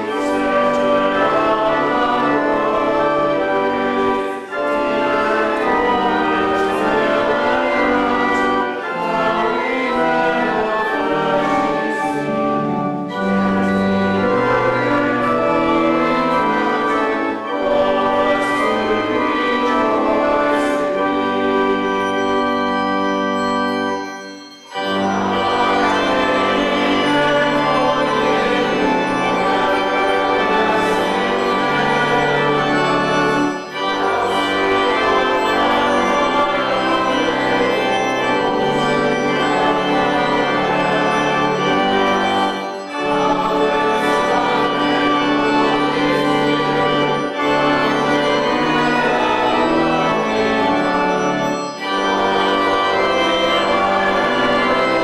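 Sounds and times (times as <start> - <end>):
organ playing a hymn: 0.0 - 55.0.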